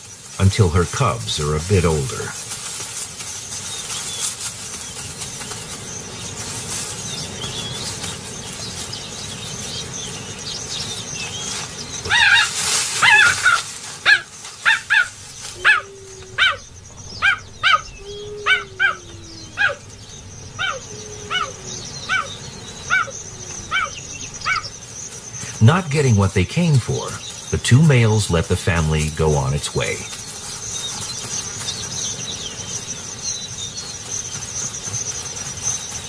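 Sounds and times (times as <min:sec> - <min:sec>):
cheetah chirping: 0:00.0 - 0:36.0
steady hiss: 0:00.0 - 0:36.0.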